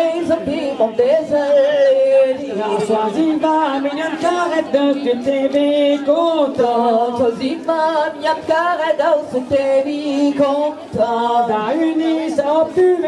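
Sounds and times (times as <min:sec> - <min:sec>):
women singing a cappella: 0:00.0 - 0:13.0.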